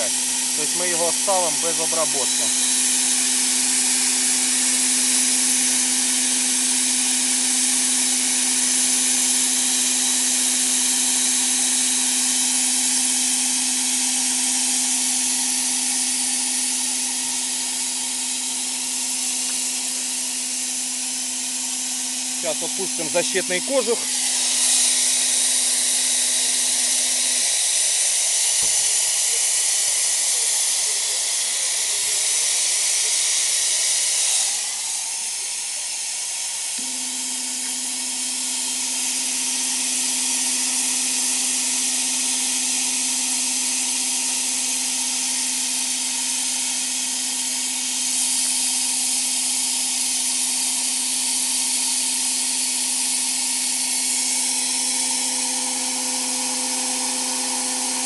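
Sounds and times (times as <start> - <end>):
compressed air jet hissing: 0.0 - 58.0.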